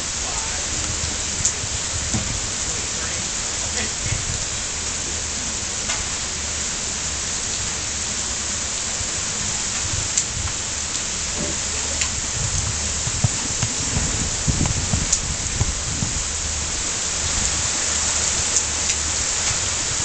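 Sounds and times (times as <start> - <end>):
low rumble: 0.0 - 17.8
heavy rain falling: 0.0 - 20.0.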